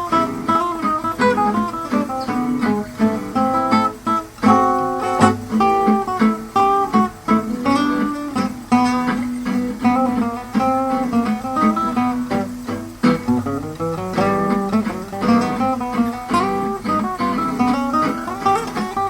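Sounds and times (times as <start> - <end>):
acoustic guitar playing a waltz: 0.0 - 19.0.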